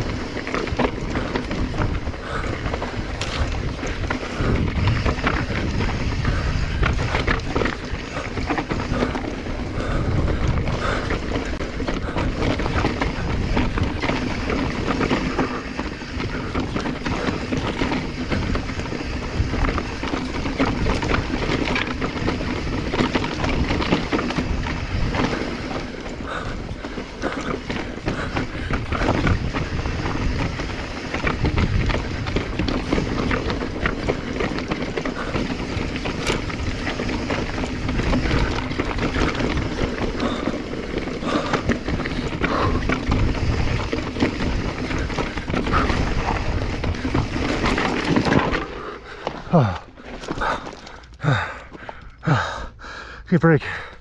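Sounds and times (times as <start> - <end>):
wind buffeting microphone: 0.0 - 52.6
bike rattling: 0.0 - 54.0
tyres crunching over dirt: 0.0 - 54.0.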